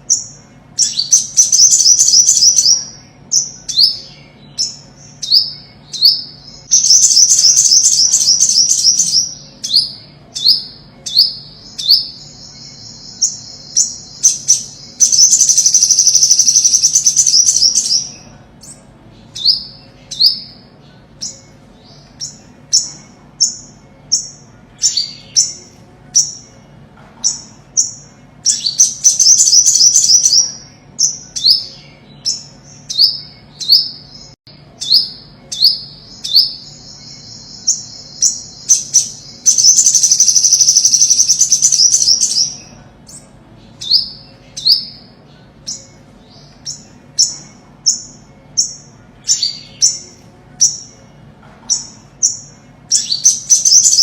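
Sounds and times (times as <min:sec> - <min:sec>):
bird song with high notes: 0:00.0 - 0:54.0
high bird trills: 0:00.0 - 0:54.0.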